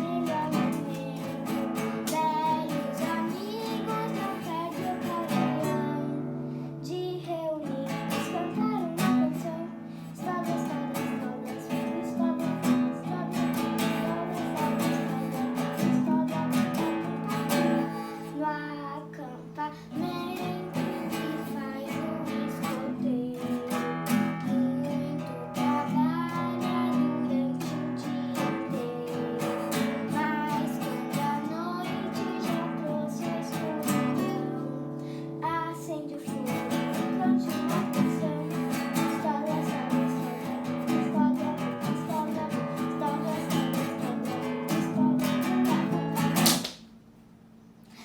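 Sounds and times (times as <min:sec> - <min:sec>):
girl singing: 0:00.0 - 0:46.4
acoustic guitar strumming: 0:00.0 - 0:46.7.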